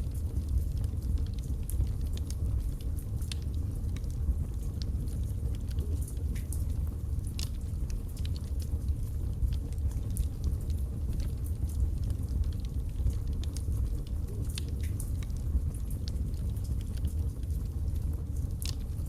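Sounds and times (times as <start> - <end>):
logs crackling and popping: 0.0 - 19.0
low rumble of flame: 0.0 - 19.0.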